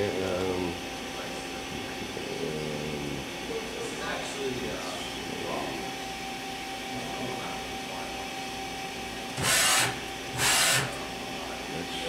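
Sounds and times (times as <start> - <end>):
machining center humming: 0.0 - 12.0.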